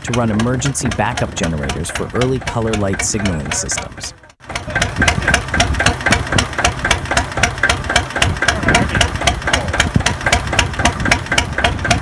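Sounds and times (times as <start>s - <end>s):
diesel engine knocking: 0.0s - 12.0s.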